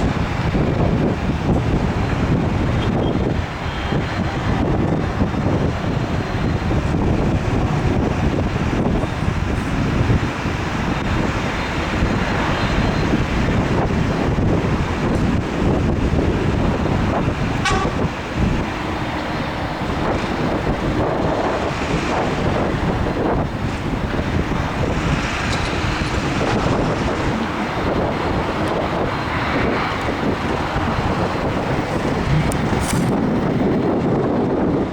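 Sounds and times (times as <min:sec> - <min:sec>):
jet engines rushing: 0:00.0 - 0:34.9
wind buffeting microphone: 0:00.0 - 0:34.9.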